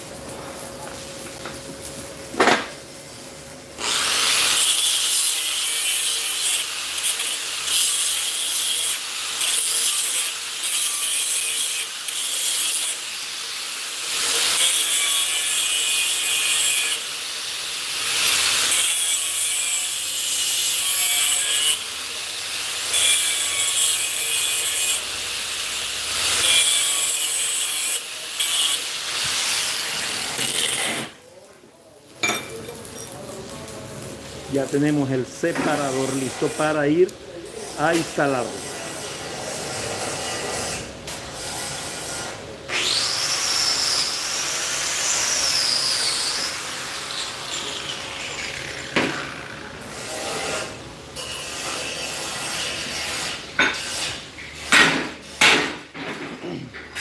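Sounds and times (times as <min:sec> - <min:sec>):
angle grinder grinding metal: 0:03.8 - 0:31.2, 0:34.6 - 0:54.3.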